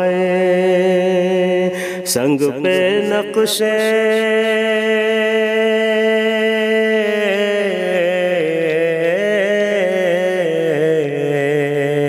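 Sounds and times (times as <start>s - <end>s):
wordless devotional vocals: 0.0s - 12.0s.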